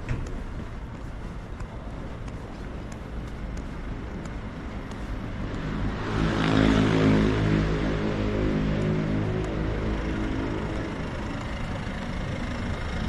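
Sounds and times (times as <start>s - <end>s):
city street ambience: 0.0s - 13.0s.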